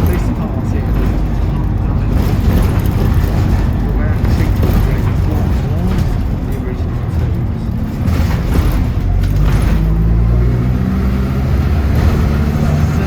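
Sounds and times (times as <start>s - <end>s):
bus engine running: 0.0s - 13.0s
low rumble of road noise: 0.0s - 13.0s.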